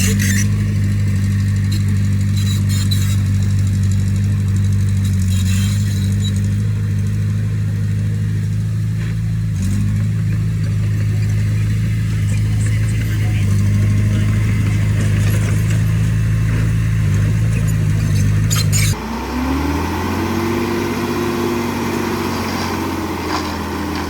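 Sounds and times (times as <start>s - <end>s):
heavy diesel machinery engine running: 0.0s - 24.0s.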